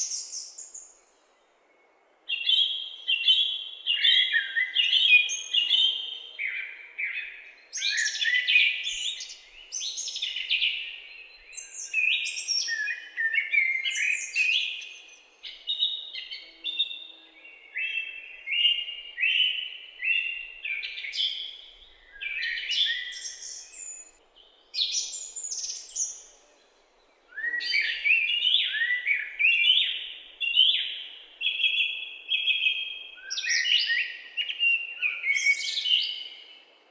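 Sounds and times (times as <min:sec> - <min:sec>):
birds chirping and warbling: 0:02.4 - 0:36.6.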